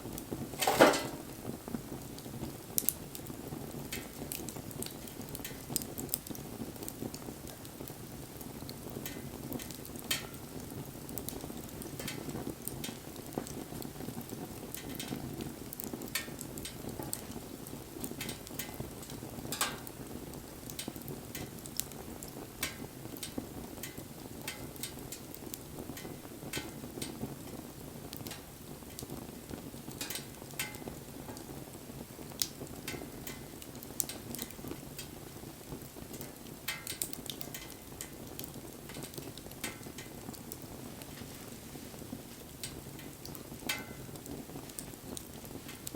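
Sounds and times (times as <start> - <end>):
low rush of flames: 0.0 - 45.9
wood fire popping and snapping: 0.0 - 45.9.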